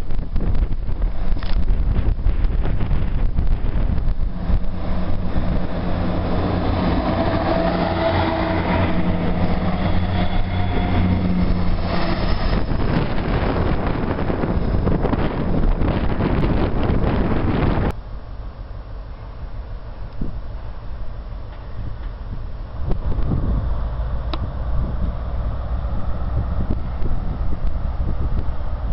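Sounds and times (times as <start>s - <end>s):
wind buffeting microphone: 0.0s - 18.0s, 20.0s - 28.9s
train engine hum: 0.0s - 28.9s
wheel and rail noise: 0.0s - 28.9s.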